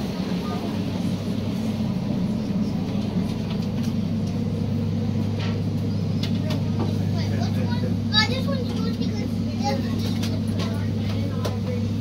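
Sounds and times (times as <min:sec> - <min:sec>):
idling diesel railcar hum: 0:00.0 - 0:12.0.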